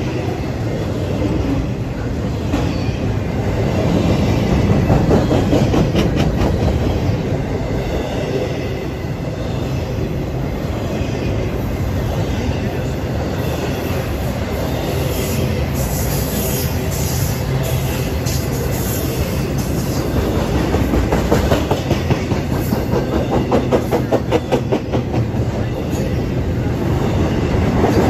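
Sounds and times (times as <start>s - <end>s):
freight train wheels rumbling: 0.0s - 28.0s
train clanks: 1.2s - 8.8s, 12.7s - 28.0s.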